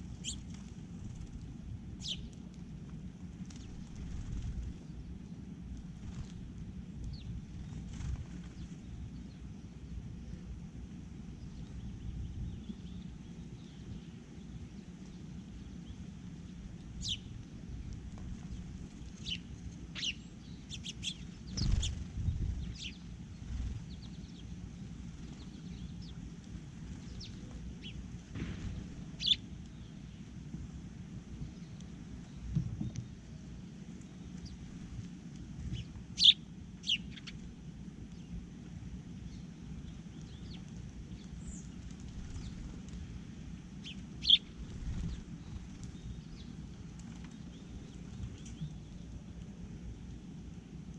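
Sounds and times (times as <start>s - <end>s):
low outdoor rumble: 0.0s - 50.9s.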